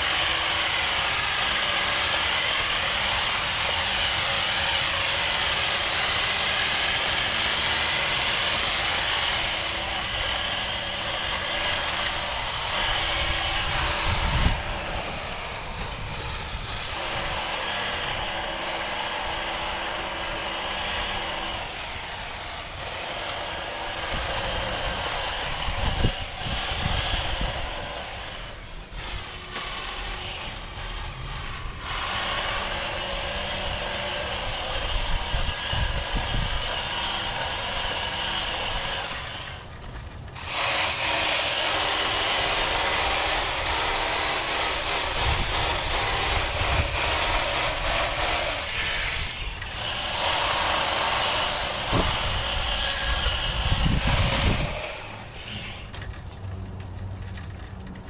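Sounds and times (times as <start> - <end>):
hedge trimmer cutting: 0.0 - 56.6.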